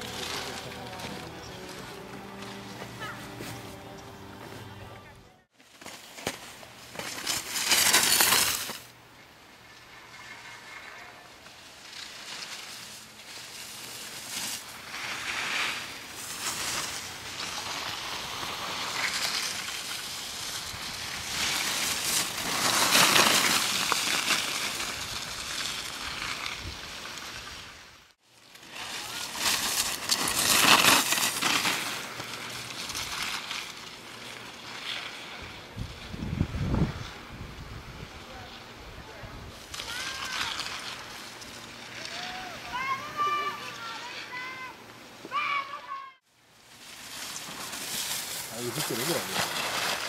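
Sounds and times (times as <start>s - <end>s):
skis scraping on snow: 0.0s - 38.6s, 39.6s - 44.6s, 46.6s - 50.0s.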